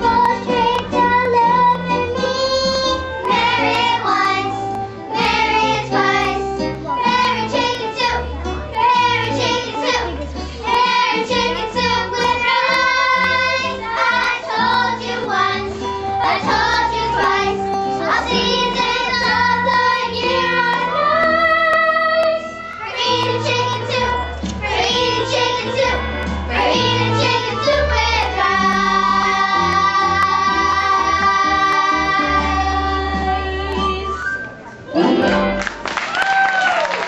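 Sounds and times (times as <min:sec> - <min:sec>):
children singing: 0:00.0 - 0:33.9
musical accompaniment with bass: 0:00.0 - 0:36.5.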